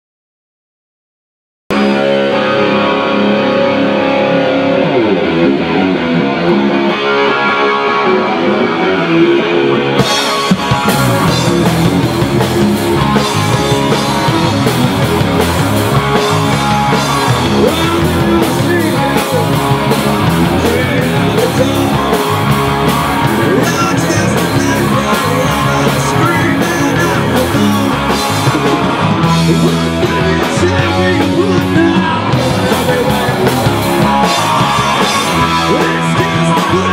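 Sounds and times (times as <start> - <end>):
rock band playing live: 1.7 - 36.9.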